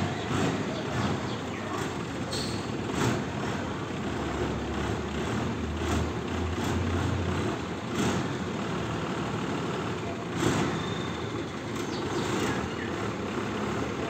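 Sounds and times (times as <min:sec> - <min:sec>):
diesel bus engine drone: 0:00.0 - 0:14.0.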